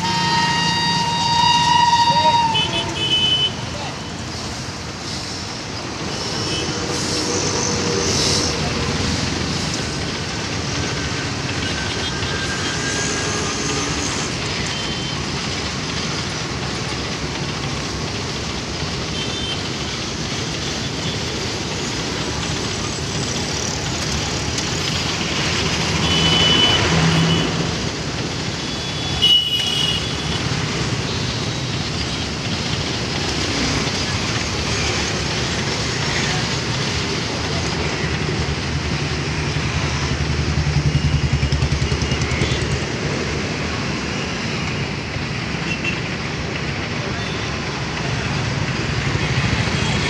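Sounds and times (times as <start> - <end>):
freight train rumbling past: 0.0 - 50.0
road traffic: 0.0 - 50.0.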